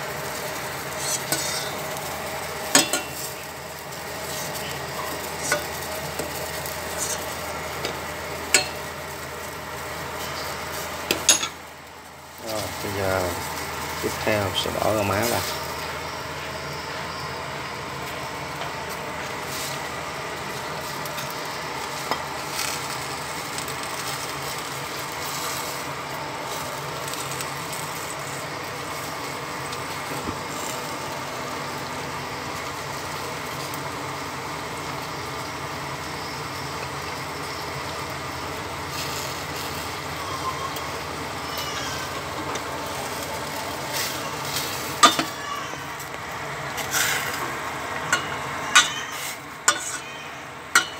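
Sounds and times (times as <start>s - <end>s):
pot of broth boiling: 0.0s - 50.9s.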